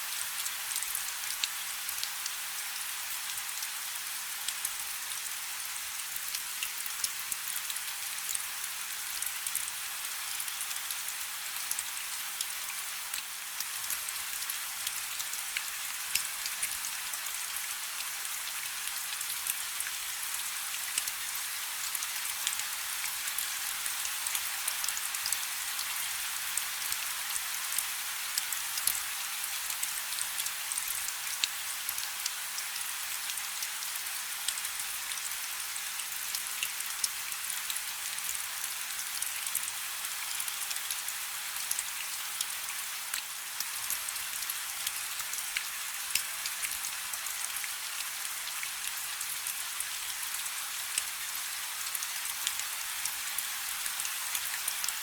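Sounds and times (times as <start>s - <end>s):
rain falling on a river: 0.0s - 55.0s.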